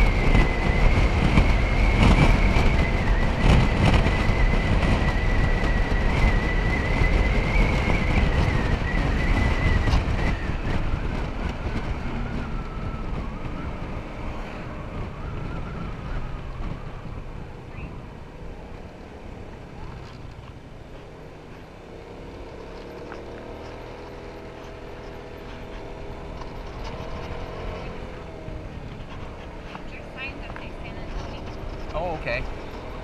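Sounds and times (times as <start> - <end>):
scooter engine whining: 0.0 - 33.0
wind rushing over microphone: 0.0 - 33.0.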